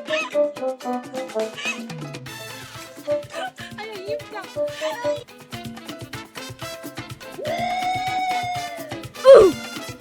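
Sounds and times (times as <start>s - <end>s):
upbeat salsa-like music: 0.0s - 10.0s.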